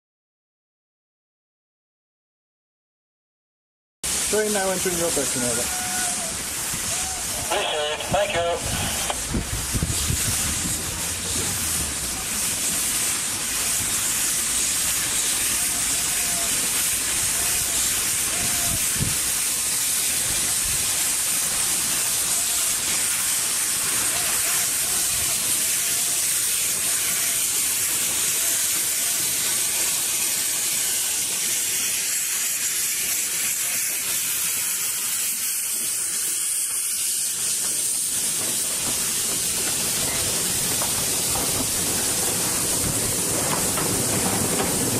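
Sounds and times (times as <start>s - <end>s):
steam locomotive hissing: 4.0s - 44.9s.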